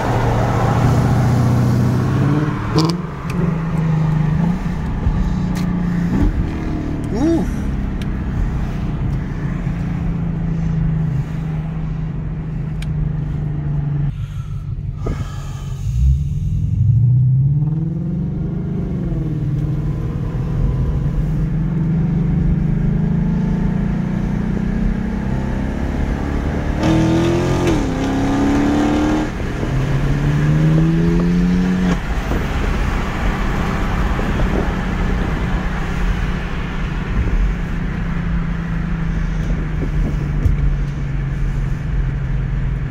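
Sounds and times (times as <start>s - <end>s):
car exhaust drone: 0.0s - 42.9s
road and wind noise: 0.0s - 42.9s.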